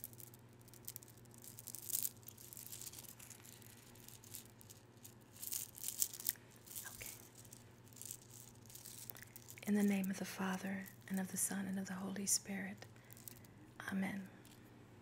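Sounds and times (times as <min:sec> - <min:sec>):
beads clicking and rattling: 0:00.0 - 0:11.4, 0:12.8 - 0:13.6.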